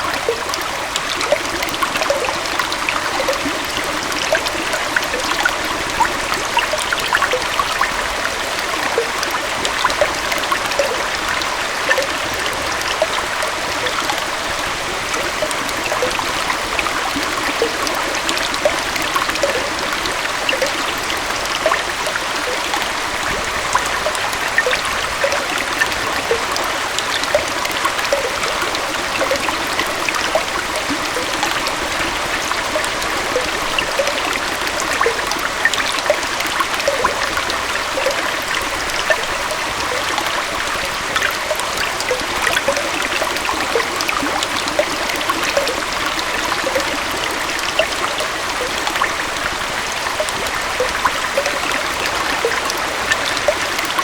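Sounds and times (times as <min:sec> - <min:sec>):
waterfall and stream flowing: 0:00.0 - 0:54.0.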